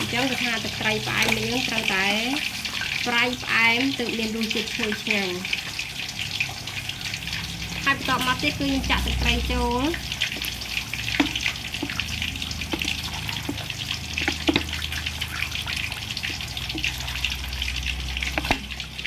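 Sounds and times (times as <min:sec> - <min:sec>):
sauce sizzling in a pan: 0:00.0 - 0:19.0.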